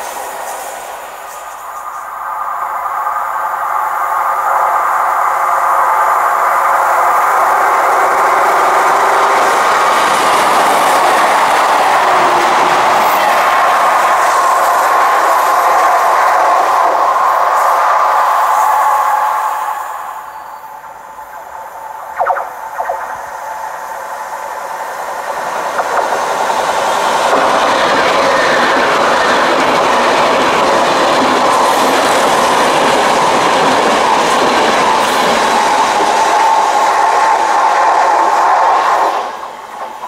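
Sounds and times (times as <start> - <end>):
train wheels clickety-clack: 0.0 - 19.9, 24.6 - 40.0.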